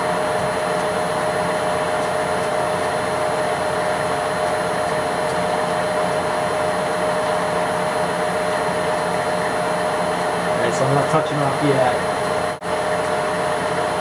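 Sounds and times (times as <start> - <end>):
milling machine whine: 0.0 - 14.0.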